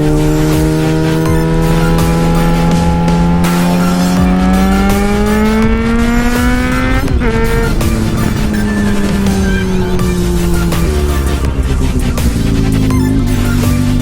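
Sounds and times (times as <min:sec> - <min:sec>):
motorcycle engine accelerating: 0:00.0 - 0:14.0
music: 0:00.0 - 0:14.0.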